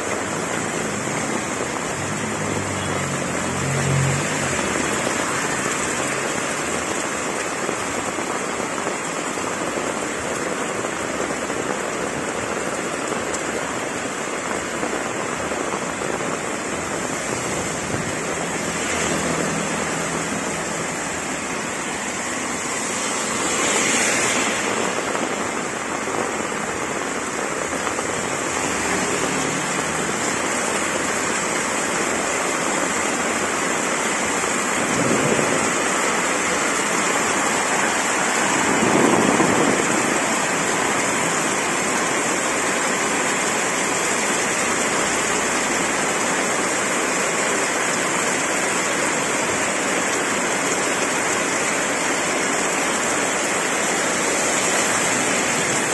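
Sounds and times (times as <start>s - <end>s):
heavy rain pouring on road: 0.0s - 55.9s.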